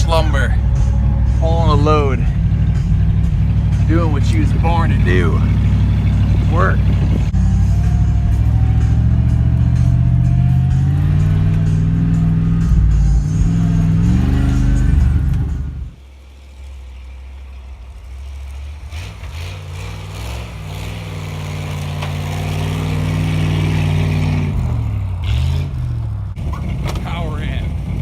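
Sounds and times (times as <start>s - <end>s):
pickup truck engine revving: 0.0s - 28.0s.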